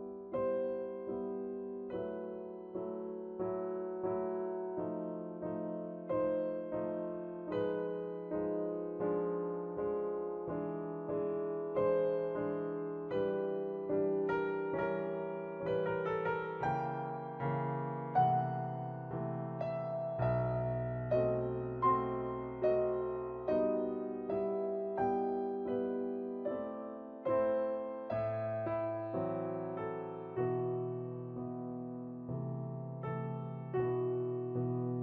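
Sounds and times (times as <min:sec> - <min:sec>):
slow gentle piano music: 0:00.0 - 0:35.0.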